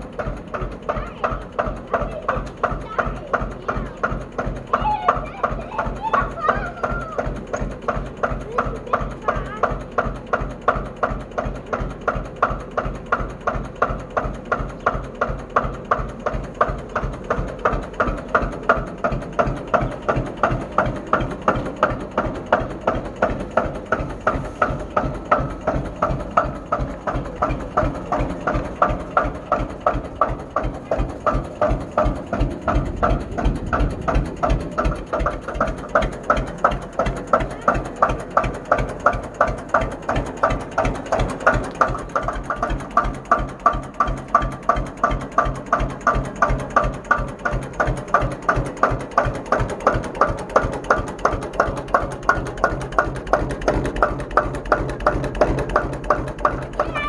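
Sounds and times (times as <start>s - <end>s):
tractor engine thumping: 0.0s - 57.0s.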